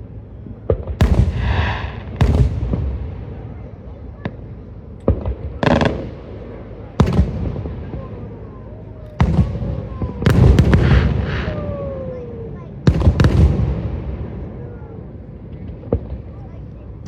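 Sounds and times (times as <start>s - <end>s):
fireworks bangs: 0.4s - 17.0s
fireworks crackling: 0.4s - 17.0s.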